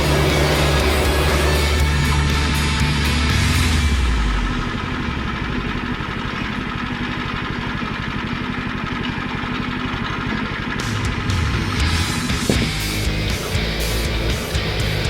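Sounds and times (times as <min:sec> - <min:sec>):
sawmill engine running: 0:00.0 - 0:15.0.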